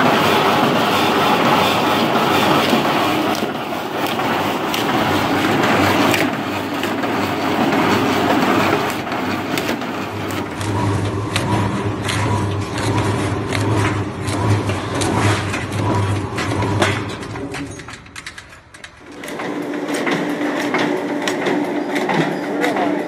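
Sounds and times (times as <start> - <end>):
dicing machine rattling and clacking: 0.0 - 23.0
machine humming and clicking: 0.0 - 23.0.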